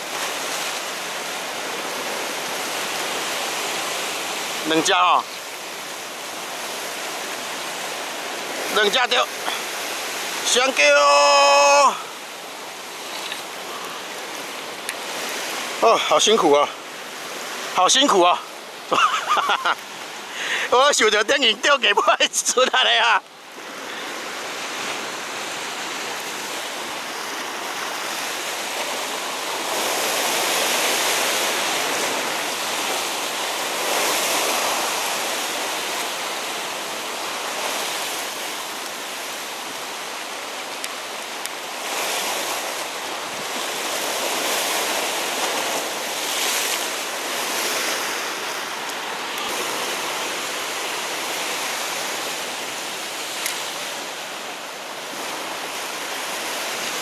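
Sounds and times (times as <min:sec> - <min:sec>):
waves washing against rocky shore: 0:00.0 - 0:57.0.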